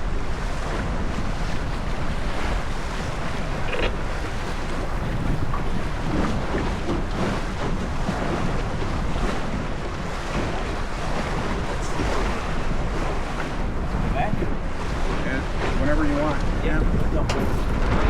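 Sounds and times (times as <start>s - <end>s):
water washing against hull: 0.0s - 18.0s
wind buffeting microphone: 0.0s - 18.0s.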